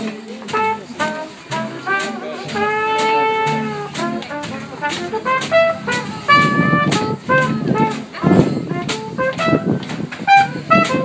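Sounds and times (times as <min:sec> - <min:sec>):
drums: 0:00.0 - 0:11.0
upright bass: 0:00.0 - 0:11.0
trumpet melody: 0:00.5 - 0:11.0.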